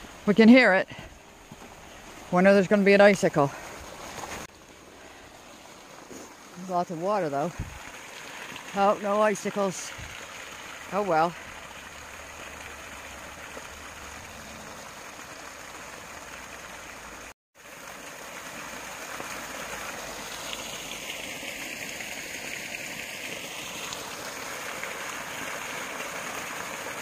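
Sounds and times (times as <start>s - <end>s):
brook splashing over stones: 0.0s - 27.0s.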